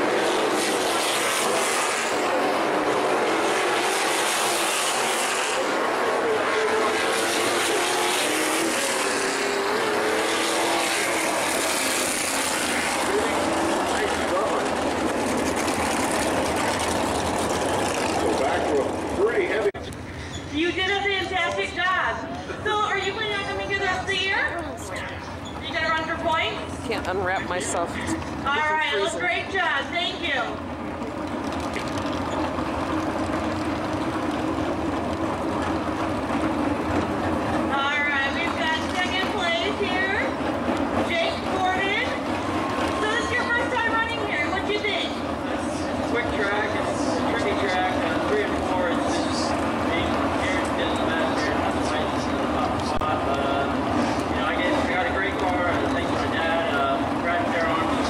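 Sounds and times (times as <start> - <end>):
race car engines running: 0.0 - 58.0.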